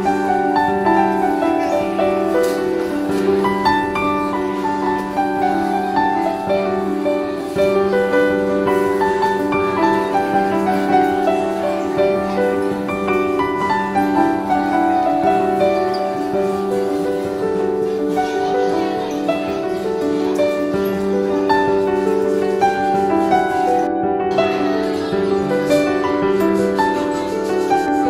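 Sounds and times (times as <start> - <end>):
piano melody: 0.0 - 28.0.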